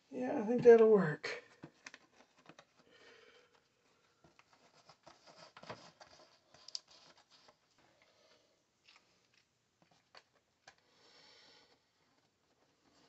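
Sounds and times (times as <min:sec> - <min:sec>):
faint rustling: 0:01.5 - 0:13.0.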